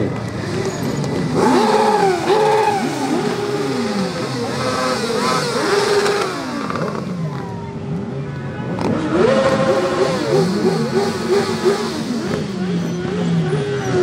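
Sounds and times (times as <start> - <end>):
vehicle engines revving: 0.0 - 14.0.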